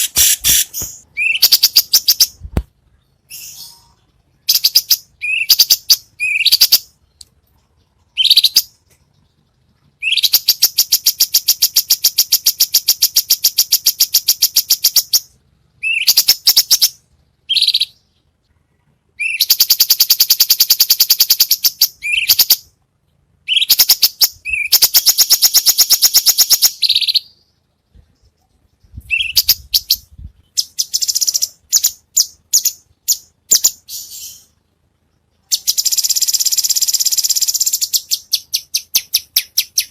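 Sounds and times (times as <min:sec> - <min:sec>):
bird chirps and whistles: 0:00.0 - 0:02.4, 0:03.3 - 0:06.9, 0:08.2 - 0:08.7, 0:10.0 - 0:18.0, 0:19.2 - 0:22.6, 0:23.5 - 0:27.4, 0:29.0 - 0:34.6, 0:35.5 - 0:39.9
songbird trills: 0:00.0 - 0:39.9.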